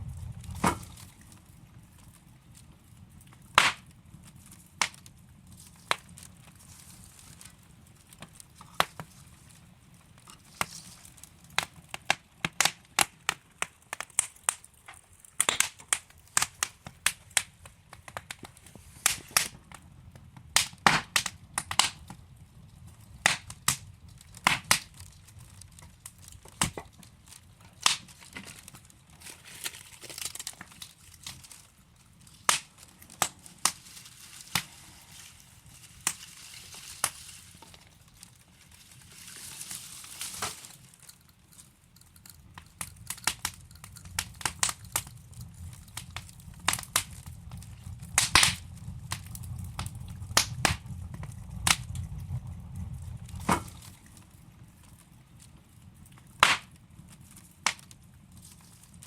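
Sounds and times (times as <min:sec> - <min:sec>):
low rush of flame: 0:00.0 - 0:59.0
wood fire crackling: 0:00.0 - 0:59.0
logs popping and snapping: 0:00.1 - 0:01.5, 0:03.4 - 0:22.2, 0:23.2 - 0:52.6, 0:53.3 - 0:54.2, 0:56.3 - 0:56.8, 0:57.6 - 0:58.7.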